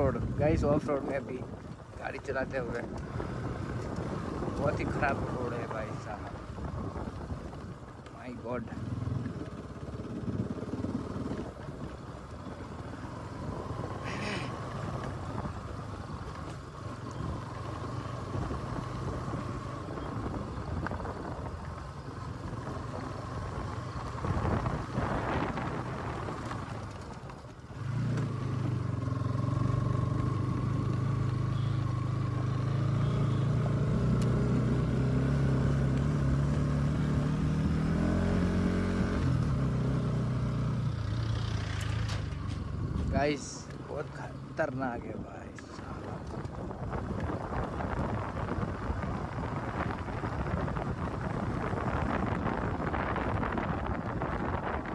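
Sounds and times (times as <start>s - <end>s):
motorcycle engine running under load: 0.0s - 44.6s.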